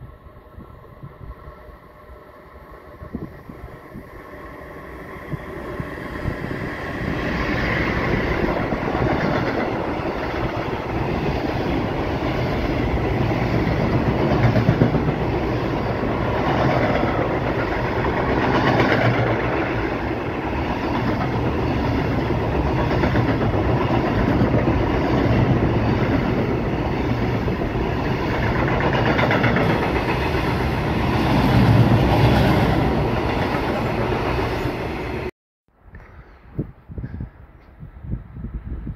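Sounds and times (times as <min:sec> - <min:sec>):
freight train wheels on rails: 0:00.0 - 0:35.3.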